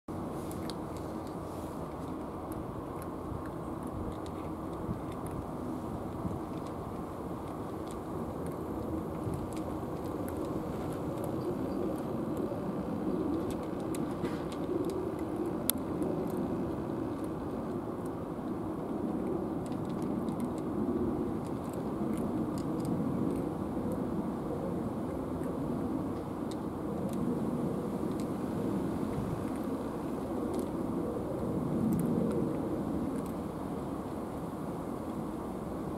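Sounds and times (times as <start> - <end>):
cats eating from plastic bowls: 0.1 - 35.9
low outdoor rumble: 0.1 - 35.9.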